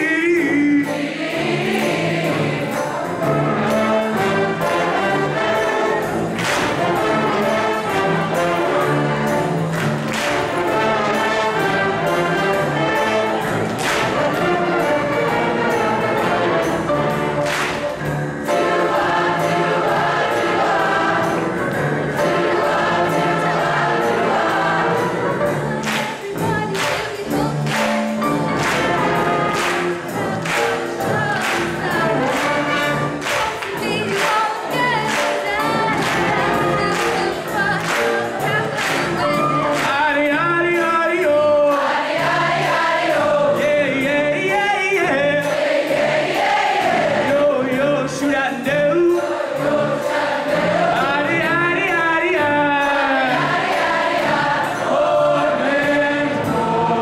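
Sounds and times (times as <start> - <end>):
brass band: 0.0 - 57.0
large choir singing: 0.0 - 57.0.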